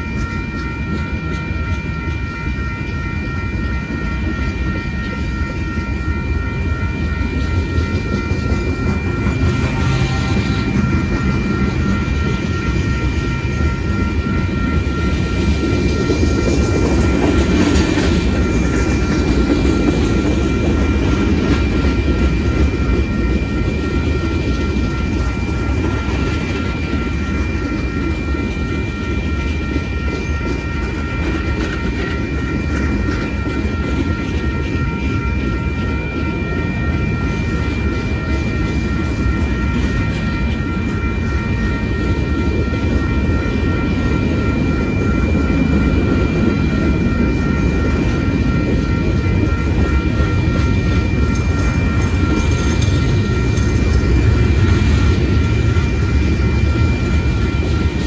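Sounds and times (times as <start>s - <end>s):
crossing warning bell ringing: 0.0s - 58.0s
train wheels rumbling on rails: 0.0s - 58.0s.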